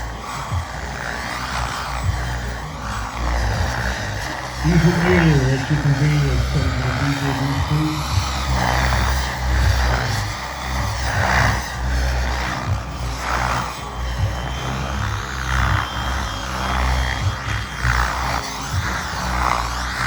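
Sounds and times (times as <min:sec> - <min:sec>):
helicopter rotor whooshing: 0:00.0 - 0:20.0
music playing: 0:00.0 - 0:20.0.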